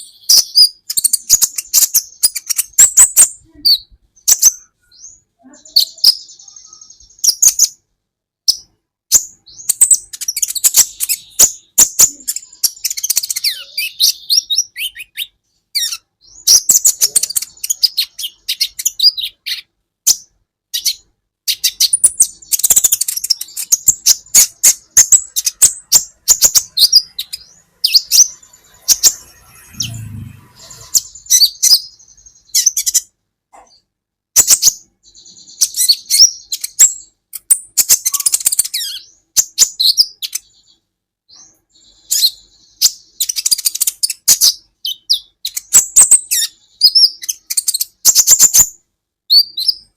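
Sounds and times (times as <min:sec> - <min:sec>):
sunbird singing high chirps: 0:00.0 - 0:07.8, 0:08.5 - 0:33.1, 0:34.4 - 0:49.9.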